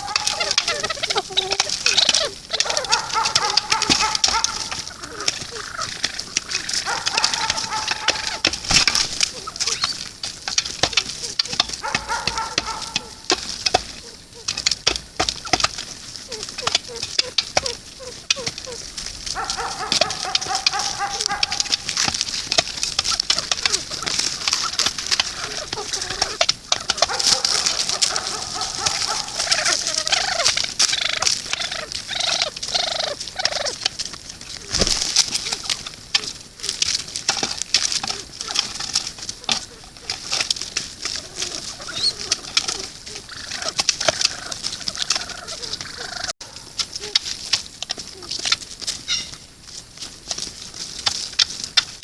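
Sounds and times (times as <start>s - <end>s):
birds calling: 0.0s - 52.0s
pheasants clucking: 0.0s - 52.0s.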